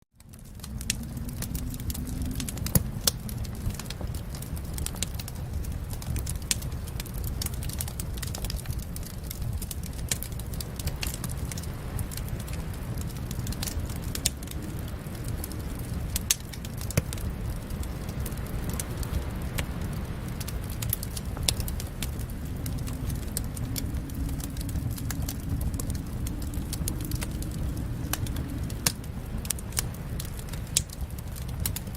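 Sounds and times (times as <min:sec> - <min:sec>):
wood fire crackling: 0:00.1 - 0:31.9
steady low rumble: 0:00.2 - 0:31.9.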